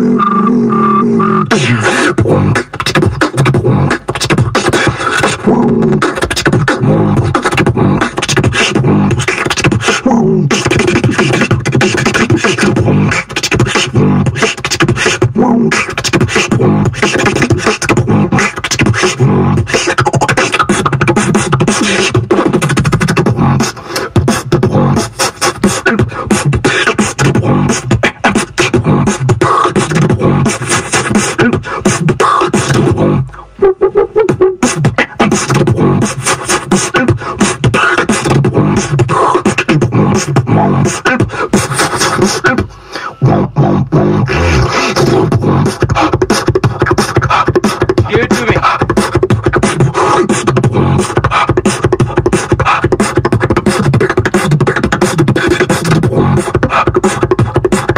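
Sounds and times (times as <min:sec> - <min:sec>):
person beatboxing: 0:00.0 - 0:57.9.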